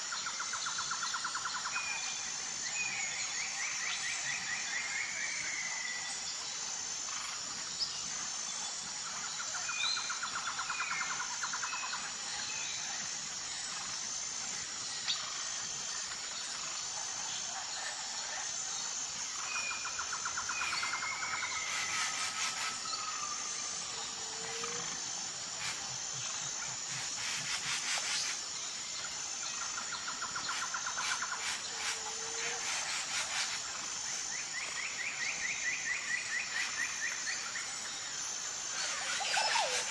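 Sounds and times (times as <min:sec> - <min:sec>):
insect trill: 0:00.0 - 0:39.9
bird chirps and rattling trills: 0:07.1 - 0:39.9.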